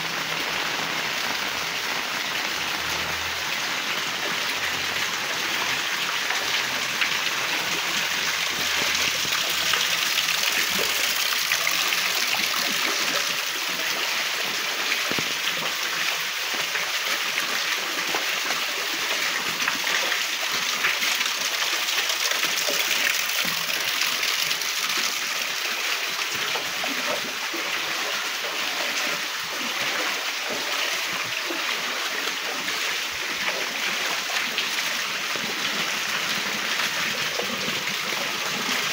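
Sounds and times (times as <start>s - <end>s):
floodwater rushing: 0.0s - 38.9s.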